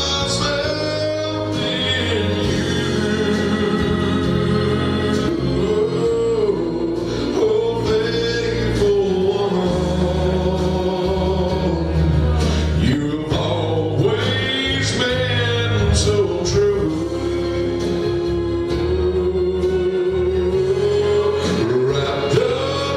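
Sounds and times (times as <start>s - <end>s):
instrumental accompaniment: 0.0s - 22.9s
man singing gospel song: 0.0s - 22.9s.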